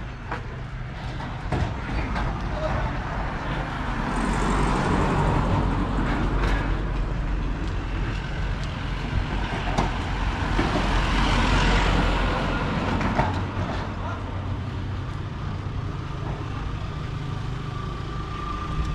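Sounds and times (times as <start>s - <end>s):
vehicles passing close by: 0.0s - 18.9s.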